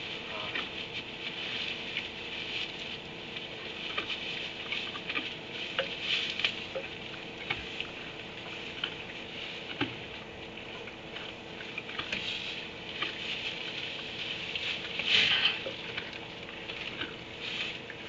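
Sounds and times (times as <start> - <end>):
donkey eating crunches: 0.0 - 18.0
rustling in wood shavings: 0.0 - 18.0
steady hum: 0.0 - 18.0.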